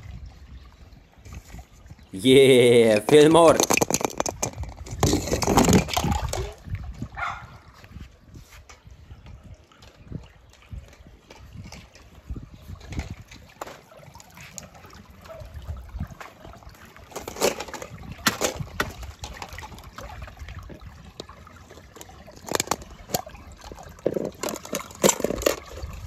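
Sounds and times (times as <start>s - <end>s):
water sloshing and trickling: 0.0s - 26.0s.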